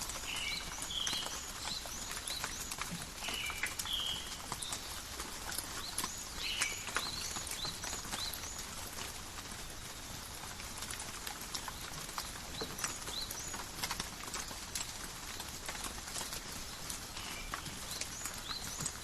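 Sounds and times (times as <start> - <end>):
rain in a forest: 0.0 - 19.0.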